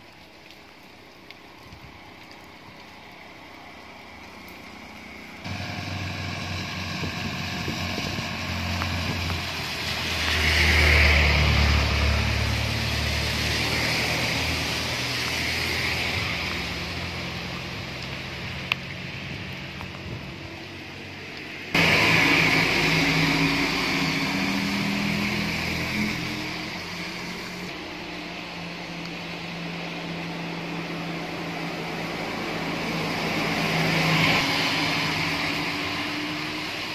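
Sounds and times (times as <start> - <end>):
vehicle engine: 4.7 - 36.9.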